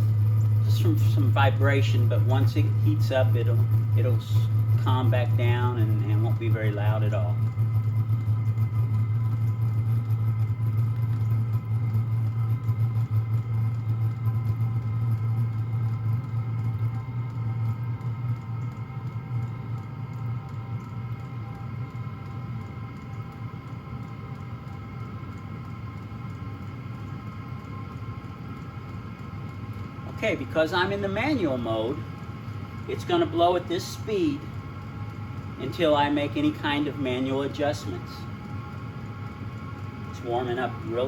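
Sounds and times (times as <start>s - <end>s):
heater humming: 0.0s - 41.0s.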